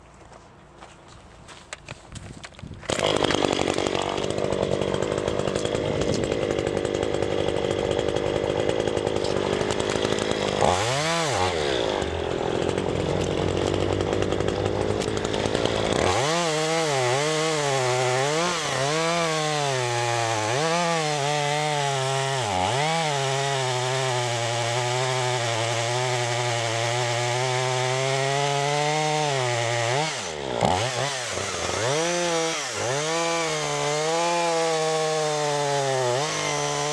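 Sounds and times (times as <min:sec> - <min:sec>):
chainsaw cutting log: 0:02.6 - 0:36.9.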